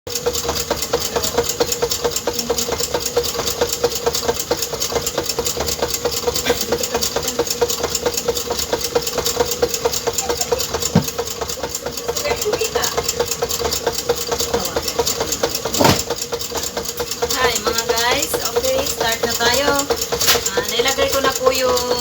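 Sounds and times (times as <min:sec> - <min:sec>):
fast even ticking: 0:00.1 - 0:22.0
small motor humming: 0:00.1 - 0:22.0.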